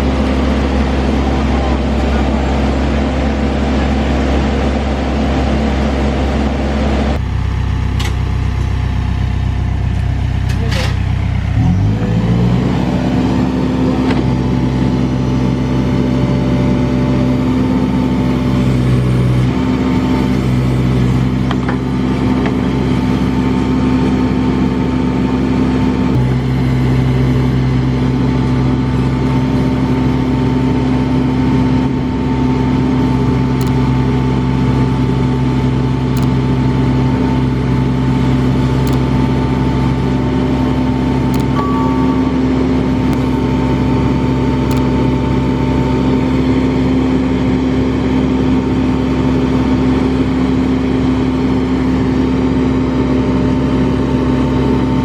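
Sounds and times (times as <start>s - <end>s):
diesel engine running at raised revs: 0.0s - 55.0s.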